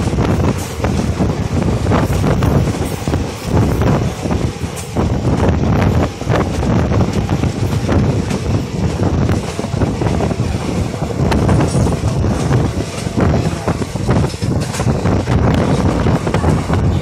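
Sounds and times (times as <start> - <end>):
train rumble: 0.0 - 17.0
wheels clattering on rails: 0.0 - 17.0
wind across the microphone: 0.0 - 17.0.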